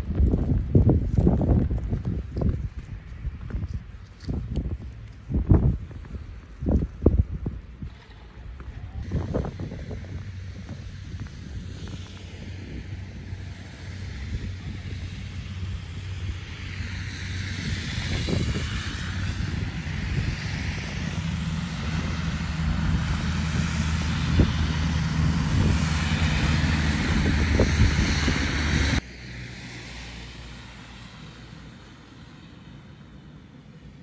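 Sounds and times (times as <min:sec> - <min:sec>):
road traffic in snow: 0:00.0 - 0:34.0
wind rumbling on microphone: 0:00.0 - 0:34.0.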